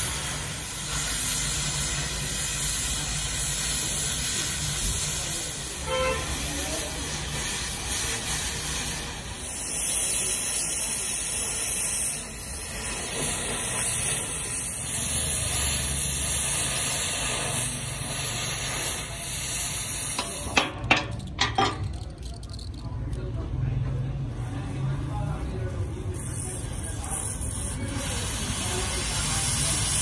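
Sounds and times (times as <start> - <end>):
cutting torch hissing: 0.0 - 21.8, 25.0 - 30.0.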